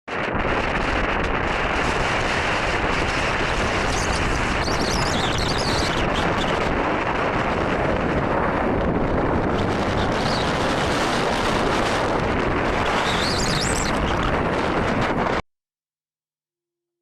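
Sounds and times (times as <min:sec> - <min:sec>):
wind battering microphone: 0:00.1 - 0:15.4.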